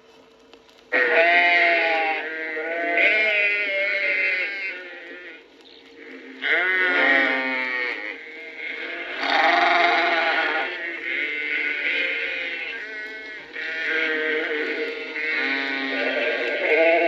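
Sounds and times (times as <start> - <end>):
sheep and lambs bleating: 0.9 - 17.0.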